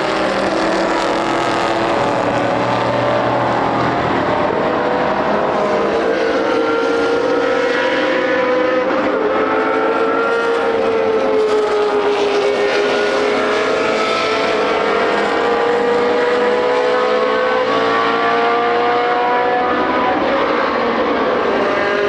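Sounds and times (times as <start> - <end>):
racing car engine at high revs: 0.0 - 22.0.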